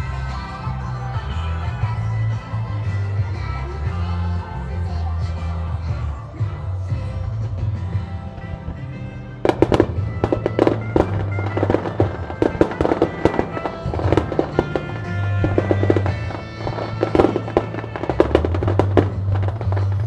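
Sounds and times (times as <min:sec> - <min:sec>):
fireworks bangs and crackles: 0:00.0 - 0:20.0
music: 0:00.0 - 0:20.0.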